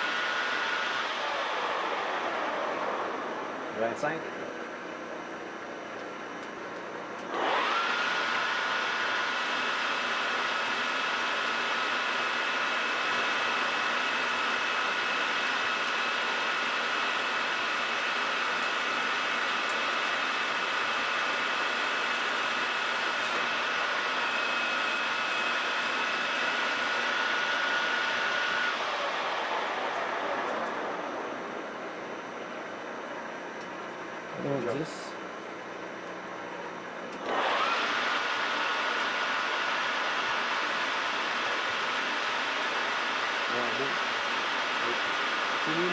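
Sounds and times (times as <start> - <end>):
metal lathe spindle whine: 0.0 - 5.9, 7.2 - 45.9.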